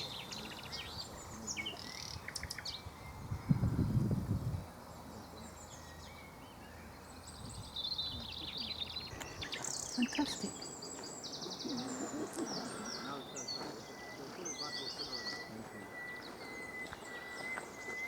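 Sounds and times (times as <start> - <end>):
nightingale singing: 0.0 - 18.0.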